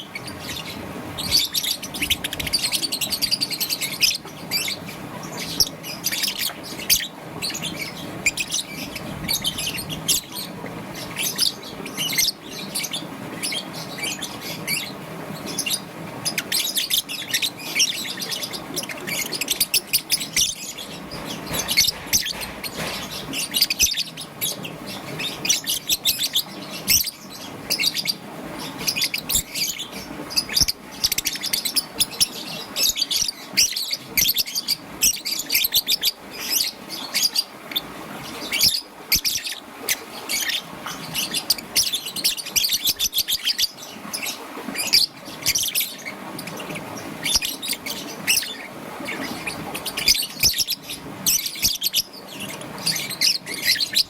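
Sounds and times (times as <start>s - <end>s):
lovebird chirping: 0.0s - 54.0s.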